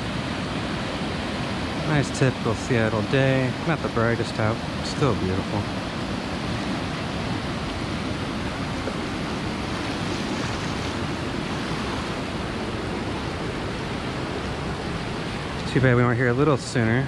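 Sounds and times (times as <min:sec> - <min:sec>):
river rapids rushing over rocks: 0:00.0 - 0:16.0.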